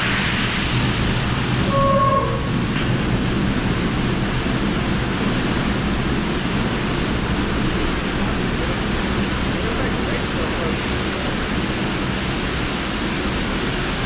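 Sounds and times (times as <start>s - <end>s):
water rushing through valve: 0.0s - 14.0s.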